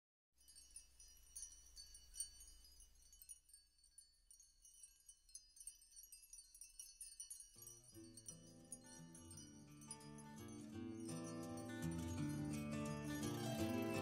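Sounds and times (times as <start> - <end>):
tinkling chimes: 0.4 - 14.0.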